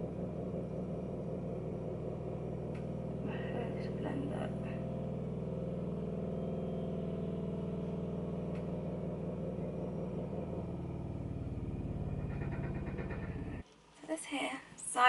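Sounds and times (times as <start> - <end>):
low pulsing engine-like drone: 0.0 - 13.6.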